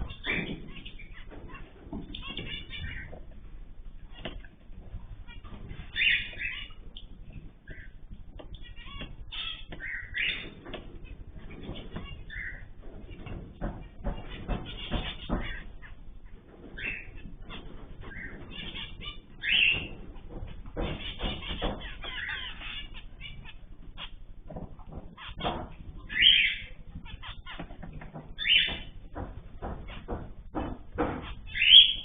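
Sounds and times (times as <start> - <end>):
cage birds chirping: 0.0 - 32.0.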